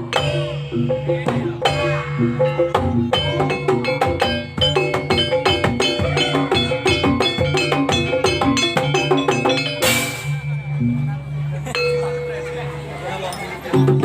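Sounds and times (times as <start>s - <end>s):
drum strokes: 0.0s - 13.0s, 13.6s - 14.0s
metallophone and gong-chime notes: 0.0s - 14.0s.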